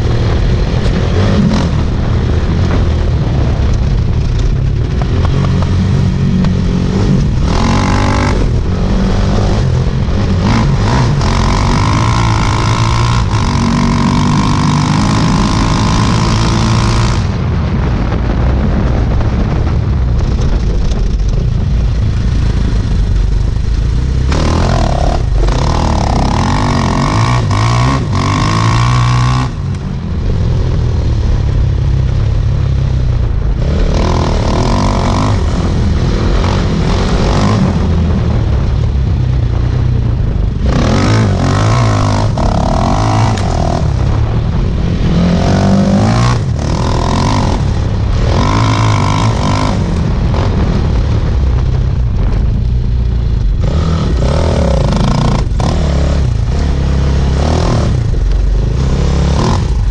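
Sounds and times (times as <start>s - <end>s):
motorcycle engine revving: 0.0s - 18.4s, 20.3s - 59.9s
wind rush on microphone: 0.0s - 59.9s.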